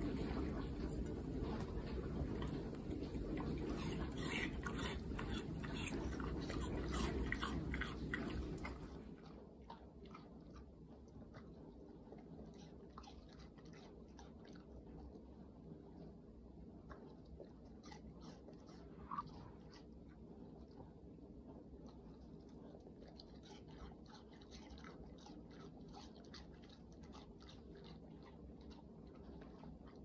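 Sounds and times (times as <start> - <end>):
dog chewing watermelon: 0.0 - 30.0.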